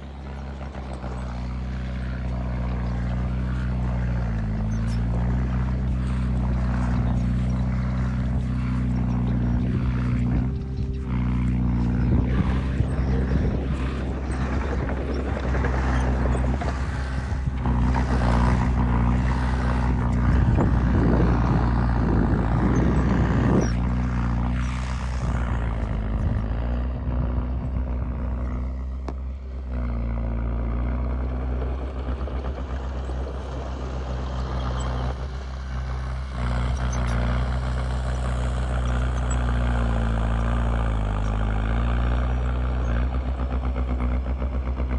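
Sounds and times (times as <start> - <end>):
heavy diesel engine running: 0.0 - 44.9
rough loud noise: 0.0 - 44.9.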